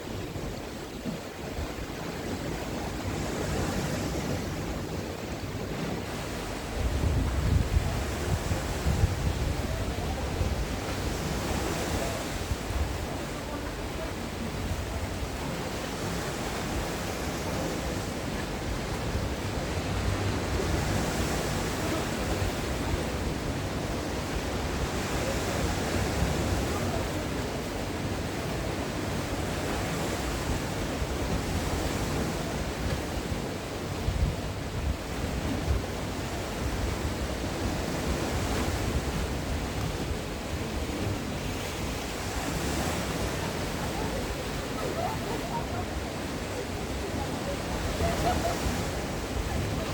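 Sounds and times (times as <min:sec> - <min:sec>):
sea waves breaking on shore: 0:00.0 - 0:49.9.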